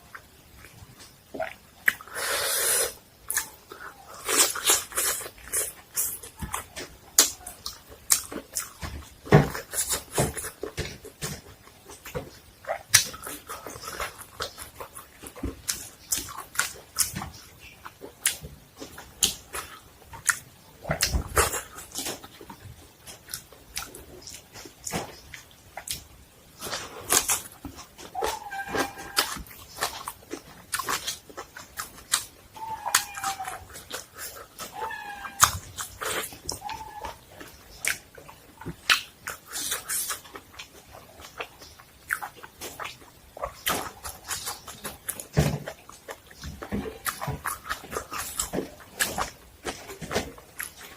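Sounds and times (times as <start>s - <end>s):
chewing: 0.1s - 50.9s.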